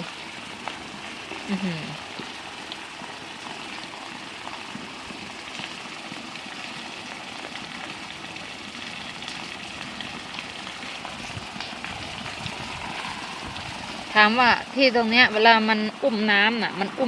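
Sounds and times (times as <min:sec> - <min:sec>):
heavy rain falling: 0:00.0 - 0:05.8, 0:08.8 - 0:17.0.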